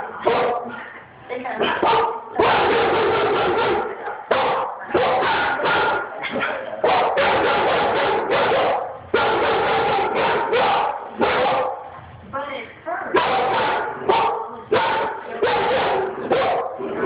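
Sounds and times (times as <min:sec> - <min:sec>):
dogs barking: 0:00.0 - 0:01.0, 0:01.6 - 0:12.0, 0:13.1 - 0:17.0.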